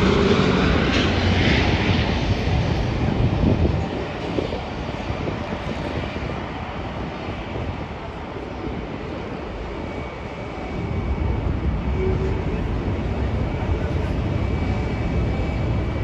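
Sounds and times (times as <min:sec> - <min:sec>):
faint high engine whine: 0:00.0 - 0:16.0
jet engine rumble: 0:00.0 - 0:16.0.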